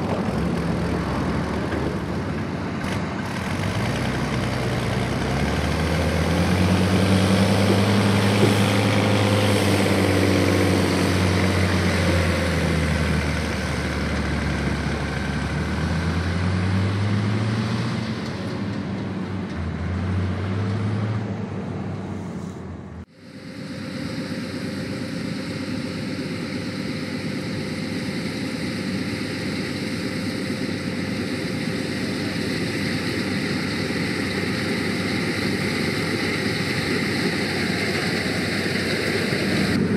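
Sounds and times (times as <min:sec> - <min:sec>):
even machine hum: 0:00.0 - 0:20.2, 0:22.9 - 0:39.9
diesel farm machinery engine: 0:00.0 - 0:39.9.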